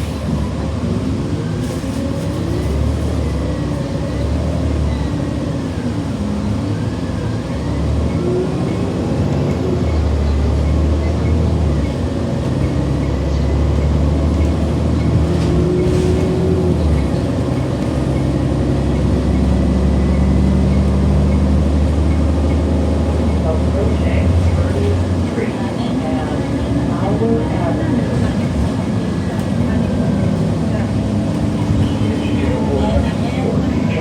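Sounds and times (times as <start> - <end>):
bus engine low rumble: 0.0 - 34.0.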